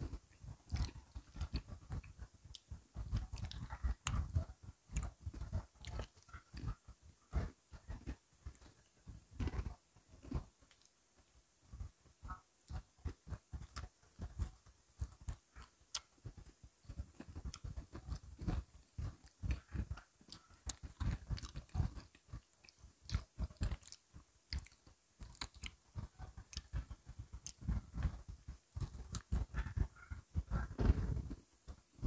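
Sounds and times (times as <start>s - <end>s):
crunching and chewing cookies: 0.0s - 11.0s, 11.8s - 31.9s.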